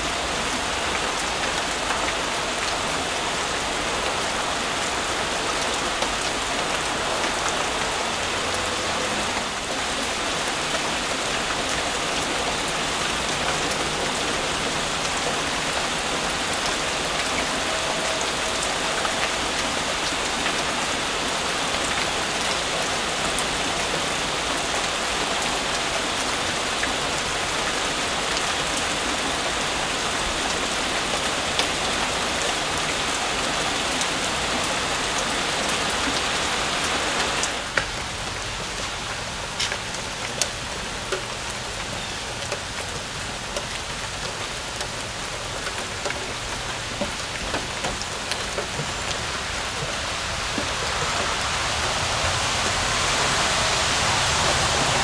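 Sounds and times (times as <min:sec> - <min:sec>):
rain falling on trees: 0:00.0 - 0:55.0
raindrops ticking: 0:00.0 - 0:55.0.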